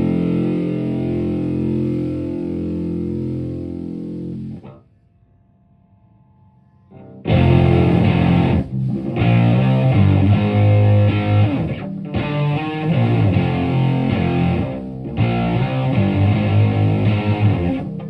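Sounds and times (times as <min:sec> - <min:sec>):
fuzzed electric guitar riff: 0:00.0 - 0:04.9, 0:06.9 - 0:18.0
faint amp hum: 0:00.0 - 0:18.0.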